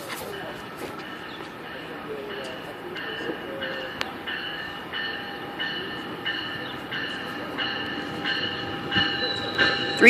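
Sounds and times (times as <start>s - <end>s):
rumble of train cars: 0.0s - 10.0s
train brakes squealing: 0.3s - 10.0s.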